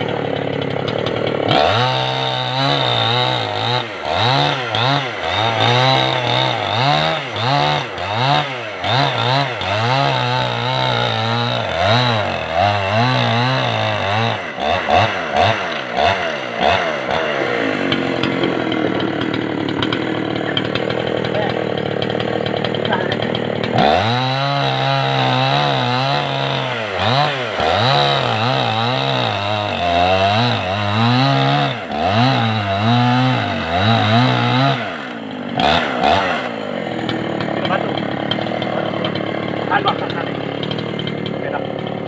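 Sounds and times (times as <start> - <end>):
chainsaw cutting and revving: 0.0 - 42.0.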